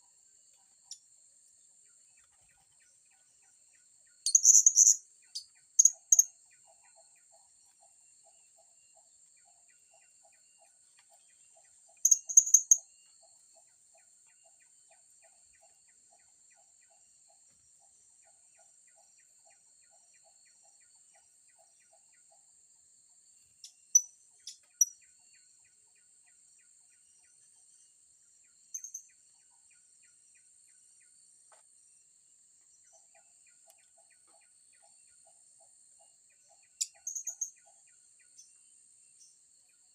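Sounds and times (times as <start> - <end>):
insect drone: 0.0 - 10.8, 12.0 - 39.9.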